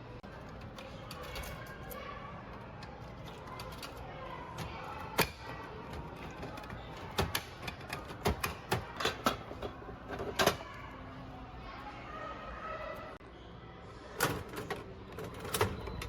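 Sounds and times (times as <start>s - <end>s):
faint background murmur: 0.0s - 16.0s.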